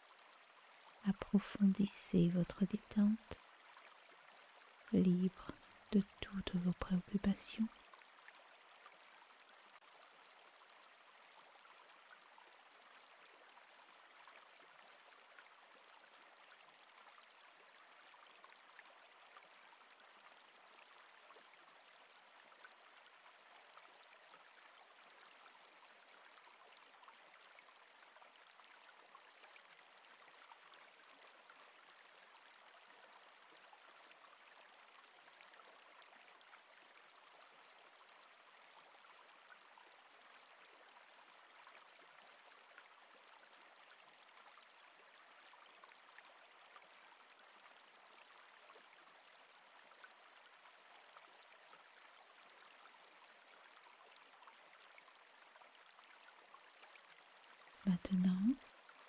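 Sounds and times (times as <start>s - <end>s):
flowing stream: 0.0s - 59.0s.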